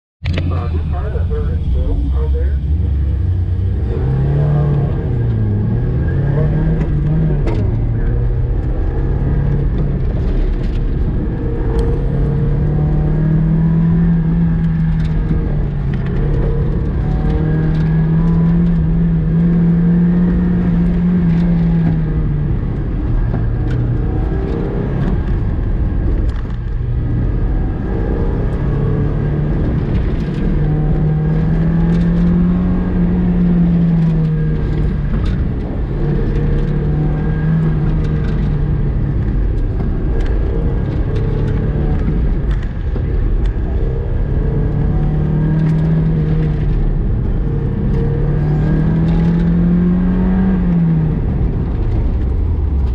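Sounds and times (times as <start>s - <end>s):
car engine accelerating and slowing: 0.2s - 52.9s.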